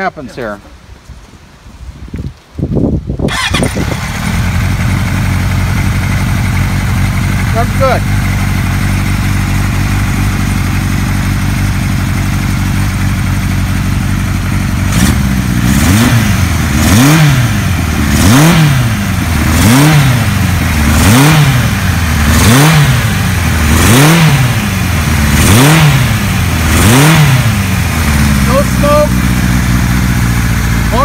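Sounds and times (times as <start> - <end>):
motorcycle engine idling and revving: 3.2 - 31.0.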